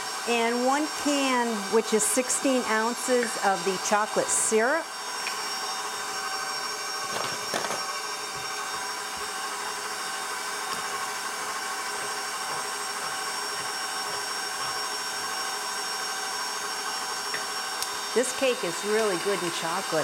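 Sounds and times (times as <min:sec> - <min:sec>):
stand mixer motor whining: 0:00.0 - 0:20.0.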